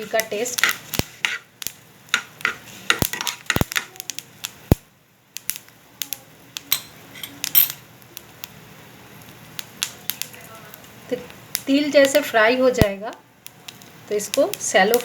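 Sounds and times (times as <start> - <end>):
seeds popping in hot oil: 0.0 - 15.0.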